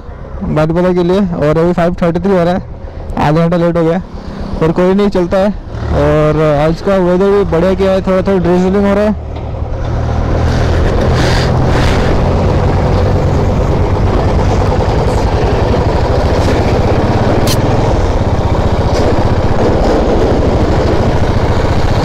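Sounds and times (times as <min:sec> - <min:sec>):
road and wind noise: 0:00.0 - 0:22.0
motorcycle engine running: 0:04.2 - 0:22.0.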